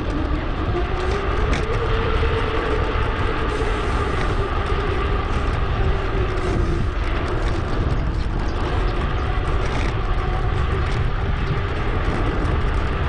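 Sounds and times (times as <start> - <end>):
bike tyres and drivetrain hum: 0.0 - 13.0
wind rush on microphone: 0.0 - 13.0.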